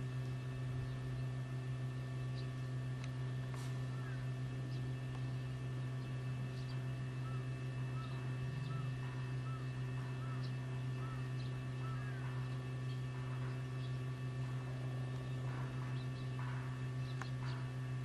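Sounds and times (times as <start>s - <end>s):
faint steady tones: 0.0s - 18.0s
low electrical hum: 0.0s - 18.0s.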